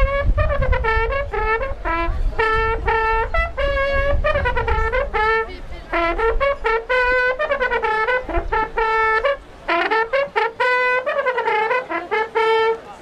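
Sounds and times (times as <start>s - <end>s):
brass horn signal call: 0.0s - 13.0s.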